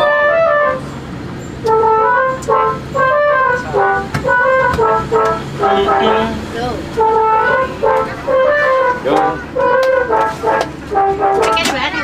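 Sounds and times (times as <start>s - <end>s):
bus air horn melody: 0.0s - 12.0s.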